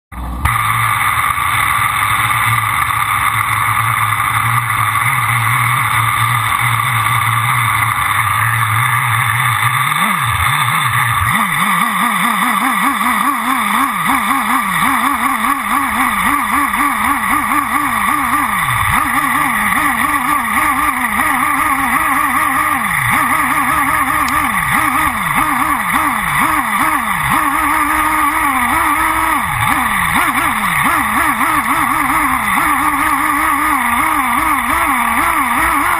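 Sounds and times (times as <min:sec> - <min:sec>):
nitro engine idling and revving: 0:00.1 - 0:35.9.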